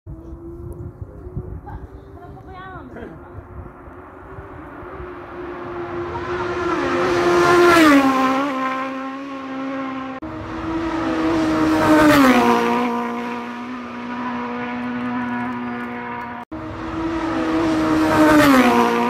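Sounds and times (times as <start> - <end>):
racing motorcycles passing: 0.1 - 19.0.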